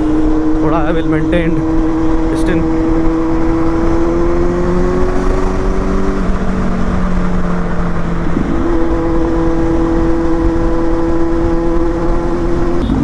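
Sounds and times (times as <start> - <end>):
motorcycle engine cruising: 0.0 - 13.0
wind rush: 0.0 - 13.0.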